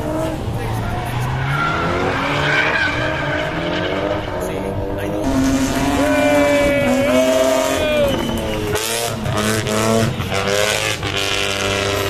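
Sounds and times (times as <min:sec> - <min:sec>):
car engine revving high: 0:00.0 - 0:12.0
tyres skidding: 0:00.0 - 0:12.0.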